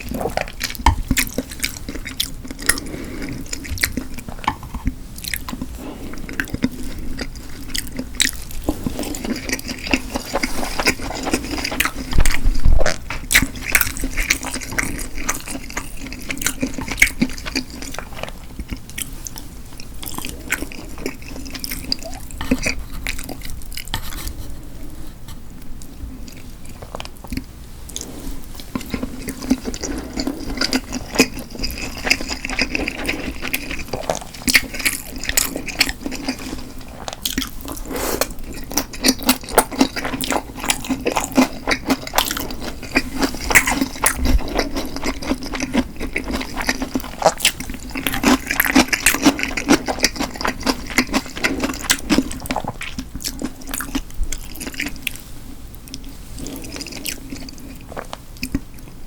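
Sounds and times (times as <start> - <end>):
wet chewing and mouth sounds: 0.0 - 59.0.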